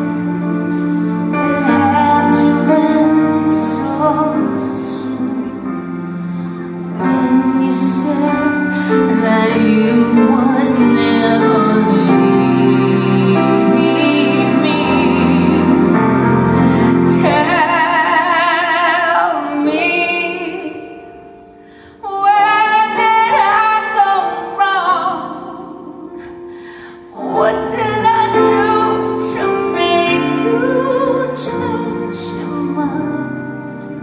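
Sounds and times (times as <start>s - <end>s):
instrumental accompaniment: 0.0s - 34.0s
woman singing with vibrato: 0.0s - 34.0s.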